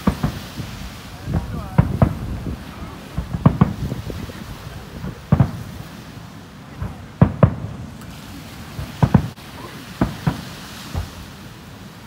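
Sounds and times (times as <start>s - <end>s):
firework shells booming: 0.0s - 11.8s.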